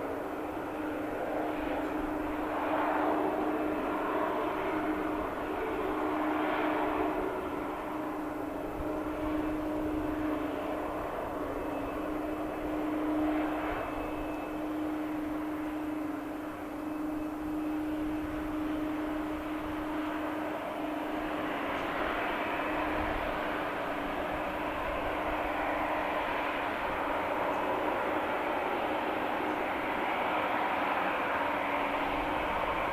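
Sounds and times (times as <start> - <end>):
airliner engines humming: 0.0 - 32.9.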